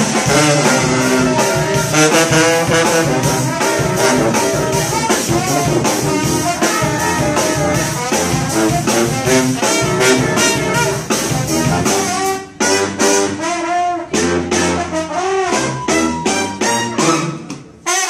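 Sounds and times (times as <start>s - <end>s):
brass band playing jazz: 0.0s - 18.0s
drum kit: 0.0s - 18.0s.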